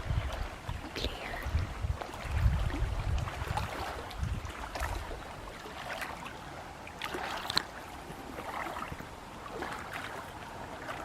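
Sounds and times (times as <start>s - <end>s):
small waves lapping shore: 0.0s - 11.0s.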